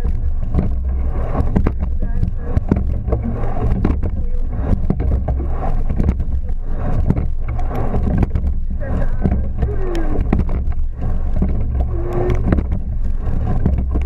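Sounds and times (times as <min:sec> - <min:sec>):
oars knocking in oarlocks: 0:00.0 - 0:14.0
water rushing along hull: 0:00.0 - 0:14.0
wind on microphone: 0:00.0 - 0:14.0.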